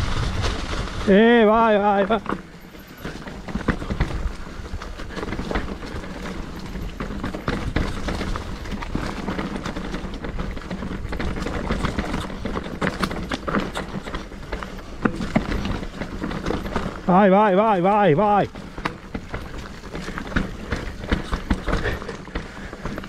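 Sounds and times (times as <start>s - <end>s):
bike rattling and knocking: 0.0s - 23.0s
tyres rolling over stones: 0.0s - 23.0s.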